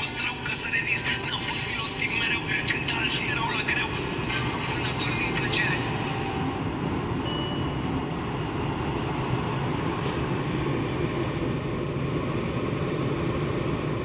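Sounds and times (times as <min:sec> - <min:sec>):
car cabin rumble and hiss: 0:00.0 - 0:14.0.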